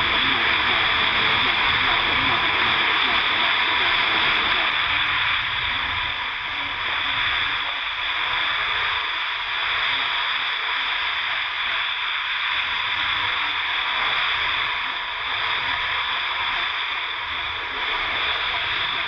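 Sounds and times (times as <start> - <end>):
jet ski running at speed: 0.0 - 19.0.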